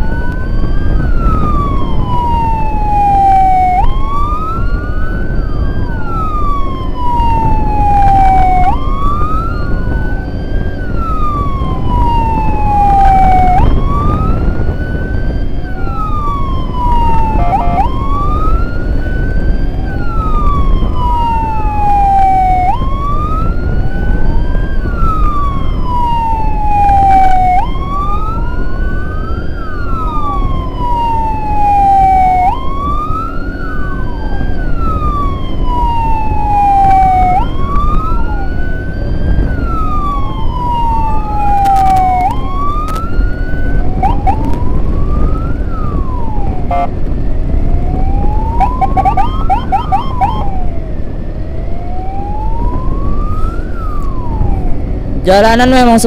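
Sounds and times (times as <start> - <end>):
emergency sirens wailing: 0.0 - 56.0
road and wind noise: 0.0 - 56.0.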